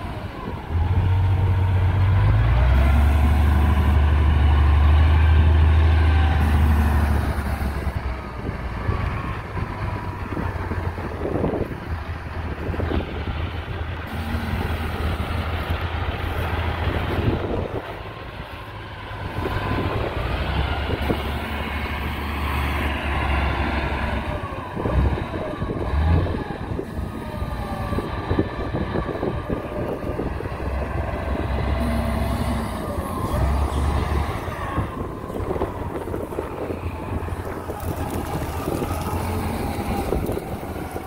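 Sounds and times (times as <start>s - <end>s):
diesel engine rumbling: 0.0s - 41.0s.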